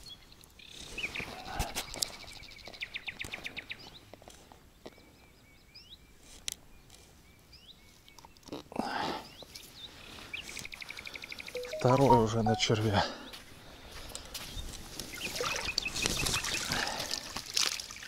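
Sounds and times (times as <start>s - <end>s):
small birds calling: 0.0s - 17.3s.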